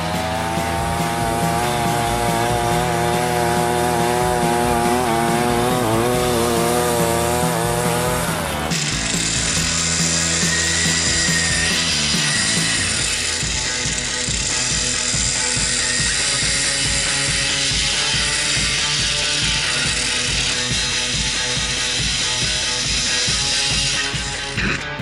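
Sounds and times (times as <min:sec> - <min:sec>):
engine and track sound: 0:00.0 - 0:25.0
small petrol engine running: 0:00.0 - 0:25.0
thin whine: 0:00.0 - 0:25.0.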